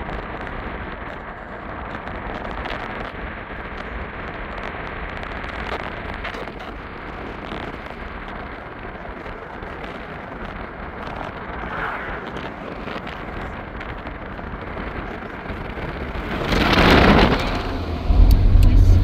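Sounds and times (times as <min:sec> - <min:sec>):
road and wind noise inside car: 0:00.0 - 0:19.0.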